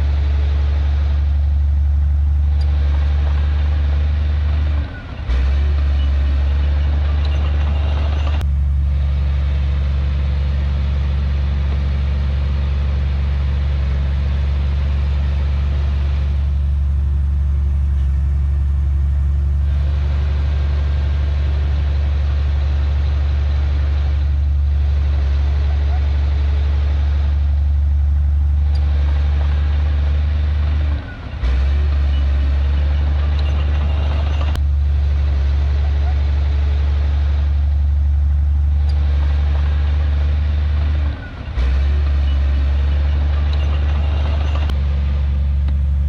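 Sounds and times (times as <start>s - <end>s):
heavy diesel engine humming: 0.0s - 46.0s.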